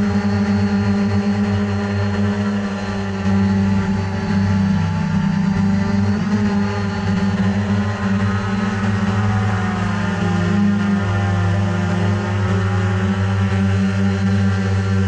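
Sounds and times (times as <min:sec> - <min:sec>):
drone motors and propellers humming: 0:00.0 - 0:15.0.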